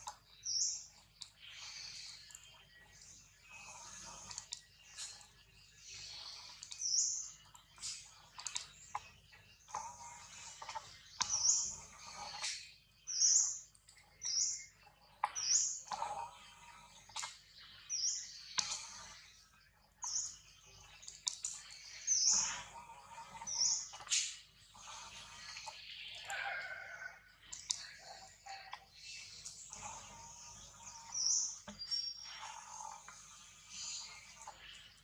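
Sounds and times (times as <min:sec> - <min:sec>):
bird chirping: 0:00.0 - 0:35.0.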